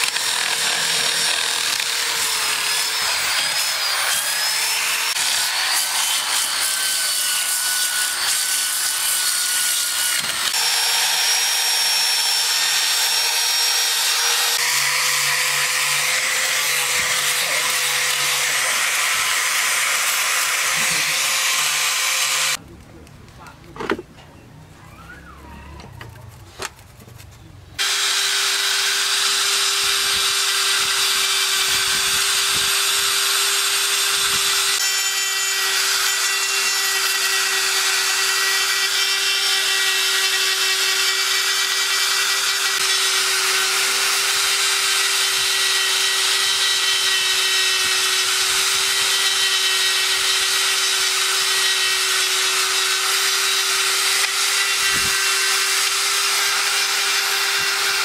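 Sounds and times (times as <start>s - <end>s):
rotary tool grinding wood: 0.0s - 22.6s, 27.8s - 58.0s.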